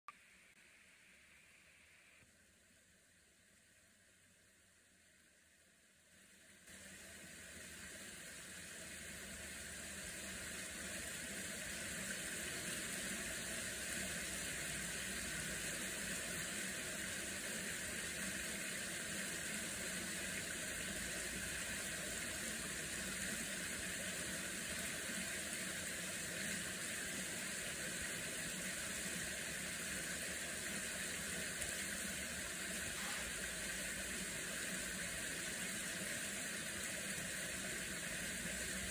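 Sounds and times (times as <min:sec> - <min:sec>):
stream flowing over rocks: 0:06.3 - 0:38.9.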